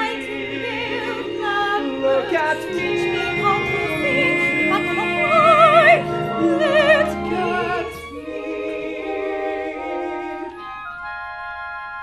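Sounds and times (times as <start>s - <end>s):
orchestra playing: 0.0s - 12.0s.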